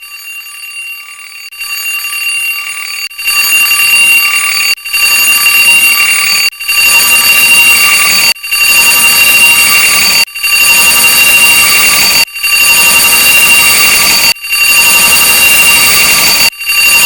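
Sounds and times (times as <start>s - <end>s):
harsh layered alarm clock ringing: 0.0s - 17.0s.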